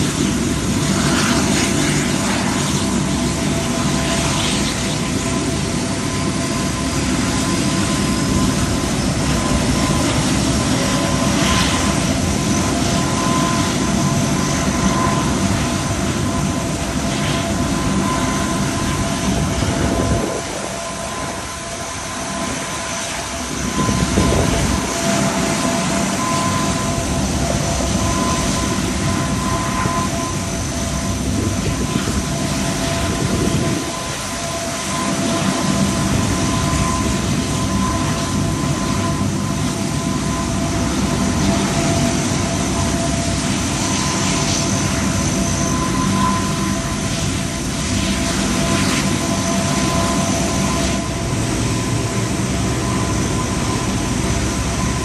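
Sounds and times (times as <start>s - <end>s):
high engine whine: 0.0s - 55.0s
turboprop propeller drone: 0.0s - 55.0s.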